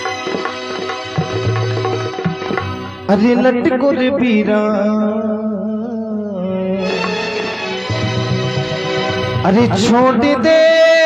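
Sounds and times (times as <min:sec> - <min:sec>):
instrumental accompaniment: 0:00.0 - 0:04.9, 0:06.4 - 0:11.0.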